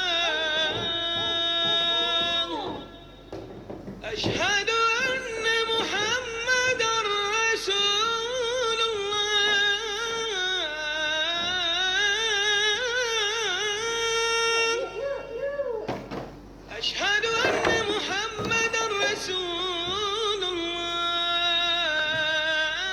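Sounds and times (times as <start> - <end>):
high singing voice: 0.0 - 22.9.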